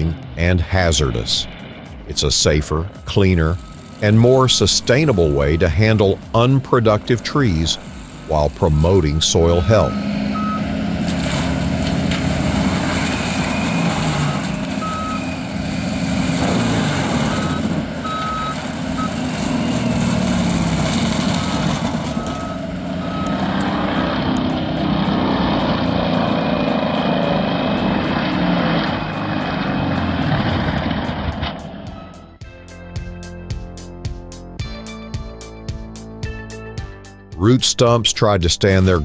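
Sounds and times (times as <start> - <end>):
diesel engine running: 0.0 - 39.0
reversing alarm beeping: 0.8 - 32.4.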